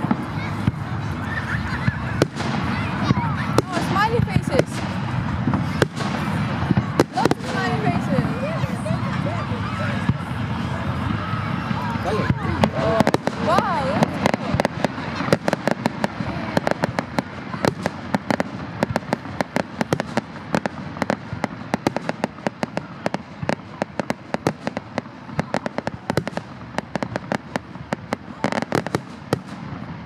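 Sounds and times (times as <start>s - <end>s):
fireworks exploding: 0.0s - 30.0s.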